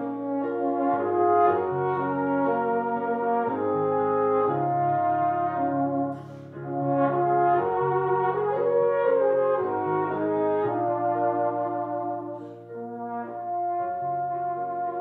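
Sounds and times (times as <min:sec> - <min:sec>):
horn duet: 0:00.0 - 0:15.0
piano accompaniment: 0:00.0 - 0:15.0.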